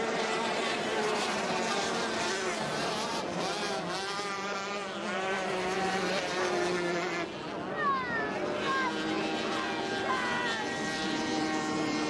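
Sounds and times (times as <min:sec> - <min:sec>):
racing boat engines at full throttle: 0:00.0 - 0:12.0.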